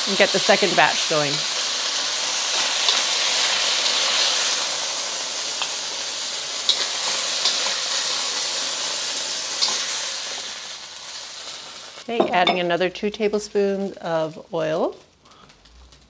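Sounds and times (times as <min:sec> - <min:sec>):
meat sizzling in hot oil: 0:00.0 - 0:15.1.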